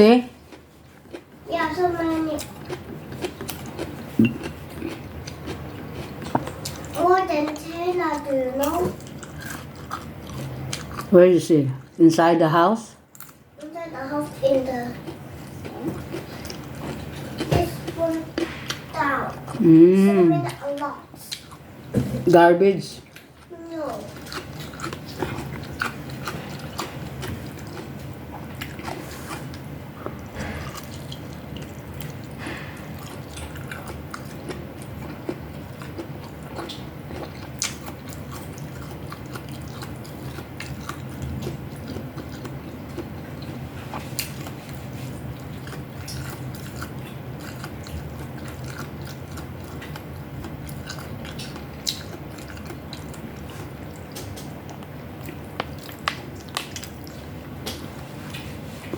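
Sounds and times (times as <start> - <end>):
steady low hum: 0.0 - 58.9
chewing and biting food: 0.5 - 11.1, 13.1 - 21.6, 23.0 - 58.9.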